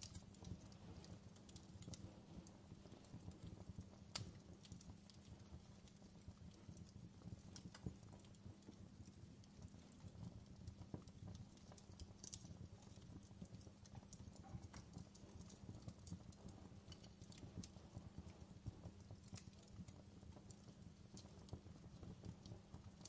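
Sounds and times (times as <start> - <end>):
low rumble of burning: 0.0 - 23.0
wood fire crackling: 0.0 - 23.0.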